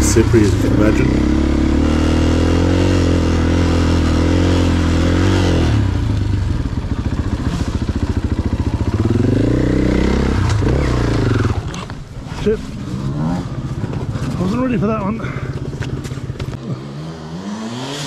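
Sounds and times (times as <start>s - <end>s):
dirt bike engine revving: 0.0s - 11.8s, 12.7s - 14.7s, 16.6s - 18.0s.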